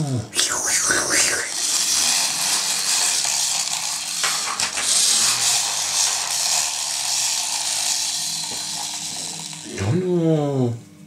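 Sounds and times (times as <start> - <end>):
toy vacuum cleaner whirring: 0.4 - 10.2.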